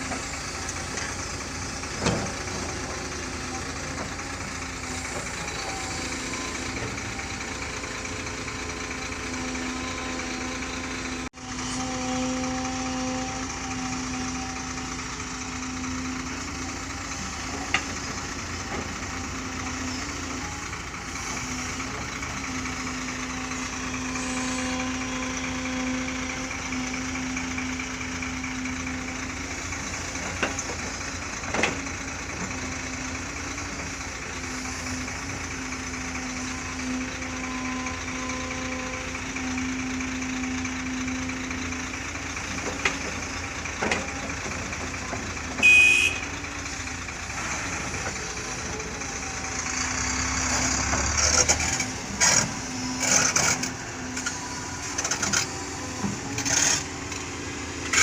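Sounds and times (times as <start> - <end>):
motor humming: 0.0 - 58.0.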